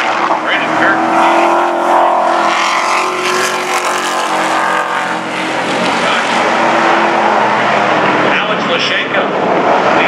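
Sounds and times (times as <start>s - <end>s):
race truck engines droning: 0.0s - 10.0s.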